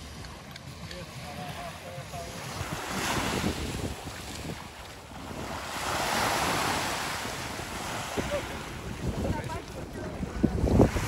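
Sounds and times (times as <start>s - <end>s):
small waves washing on beach: 0.0s - 11.0s
wind buffeting microphone: 0.0s - 11.0s.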